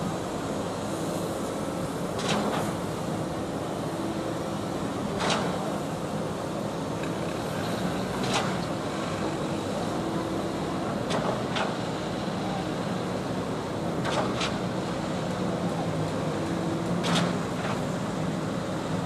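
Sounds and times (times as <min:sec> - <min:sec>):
concrete pump running: 0:00.0 - 0:19.0
pump clack and hiss: 0:00.0 - 0:19.0.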